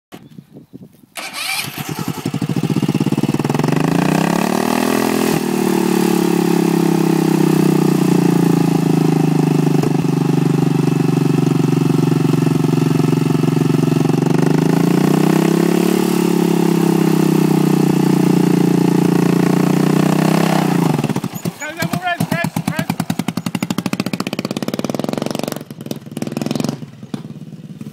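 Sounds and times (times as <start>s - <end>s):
lawn mower engine revving: 1.2s - 27.9s.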